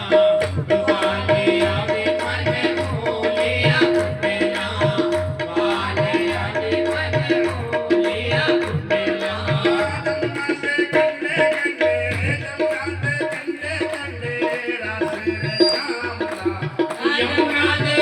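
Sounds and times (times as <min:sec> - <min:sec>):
devotional music: 0:00.0 - 0:18.0
tabla drumming: 0:00.0 - 0:18.0.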